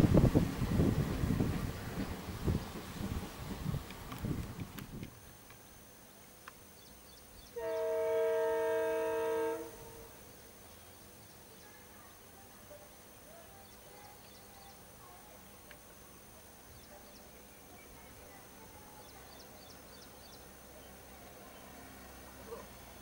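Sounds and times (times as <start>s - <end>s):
faint outdoor background noise: 0.0s - 23.0s.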